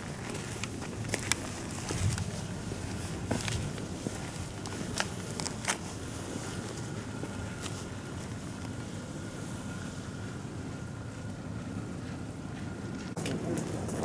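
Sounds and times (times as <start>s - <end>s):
distant traffic hum: 0.0s - 14.0s
faint high whine: 0.0s - 14.0s.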